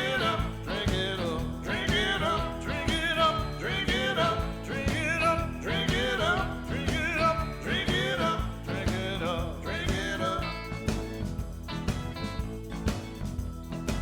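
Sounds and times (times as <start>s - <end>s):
person singing: 0.0s - 11.2s
instrumental accompaniment: 0.0s - 14.0s.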